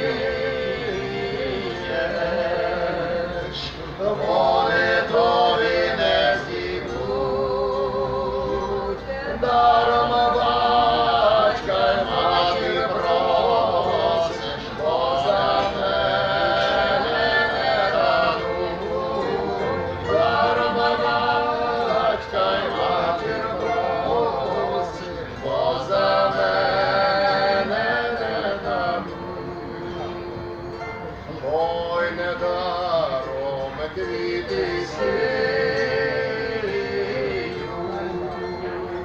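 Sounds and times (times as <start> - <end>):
lute-type instrument: 0.0 - 39.0
voices singing folk song: 0.0 - 39.0
zither: 0.0 - 39.0.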